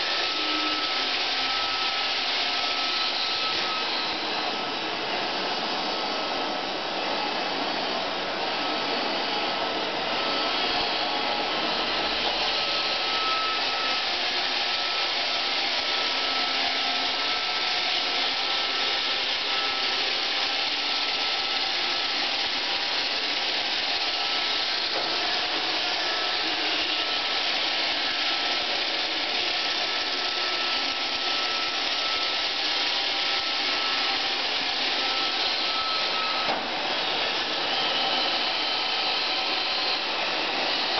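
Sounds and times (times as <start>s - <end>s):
robot vacuum whirring: 0.0s - 40.9s
thin steady whine: 0.0s - 40.9s.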